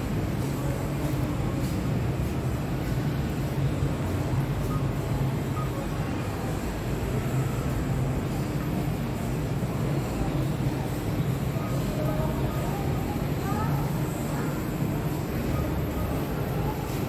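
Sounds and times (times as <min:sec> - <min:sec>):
indoor mall ambience hum: 0:00.0 - 0:17.0.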